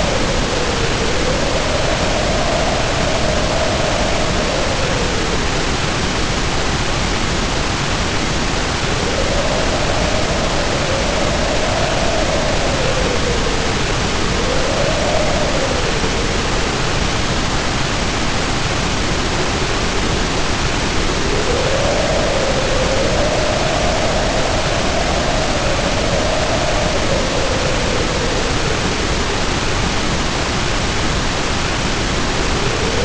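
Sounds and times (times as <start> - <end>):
heavy rain hissing: 0.0 - 33.0
wind howling: 0.0 - 33.0.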